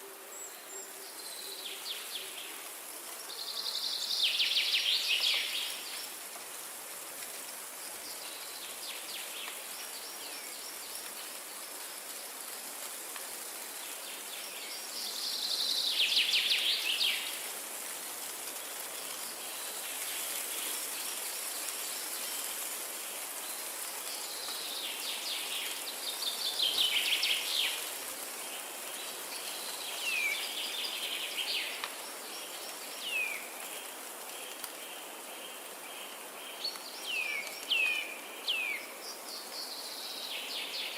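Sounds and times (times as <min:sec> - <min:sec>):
songbirds: 0:00.0 - 0:40.9
wind in trees: 0:00.0 - 0:40.9.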